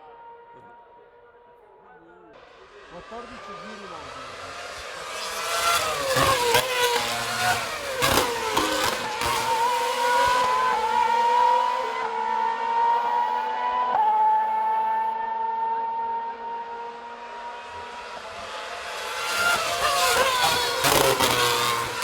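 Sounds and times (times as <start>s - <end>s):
racing car engines passing: 2.3s - 22.0s.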